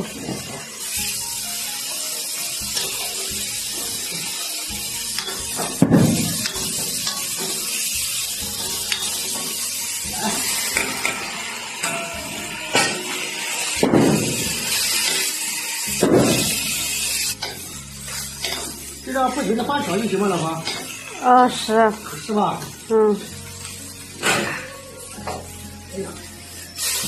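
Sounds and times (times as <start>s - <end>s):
vegetables sizzling in a wok: 0.0s - 27.0s
metal spatula scraping: 1.8s - 21.2s, 23.3s - 27.0s.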